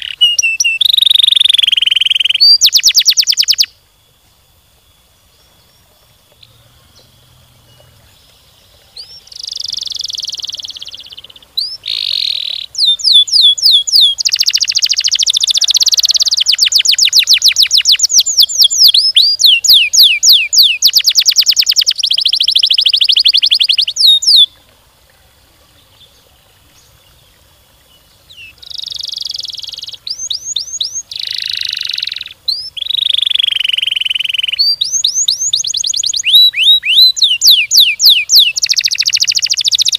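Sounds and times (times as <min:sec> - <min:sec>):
canary singing rolled trills: 0:00.0 - 0:03.8, 0:04.5 - 0:24.6, 0:25.3 - 0:39.9.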